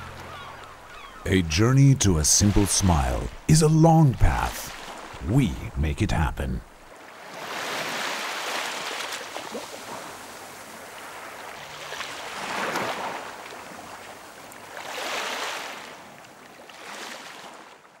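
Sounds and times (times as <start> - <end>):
small waves washing onto beach: 1.9 - 5.5, 6.8 - 18.0.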